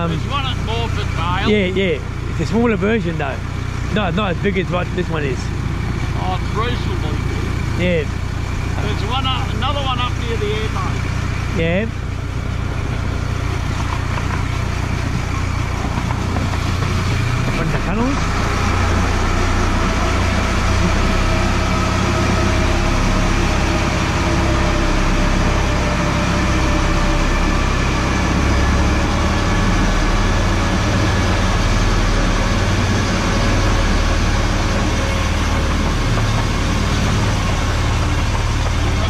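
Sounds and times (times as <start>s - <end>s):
miniature train rumbling on track: 2.0s - 39.0s.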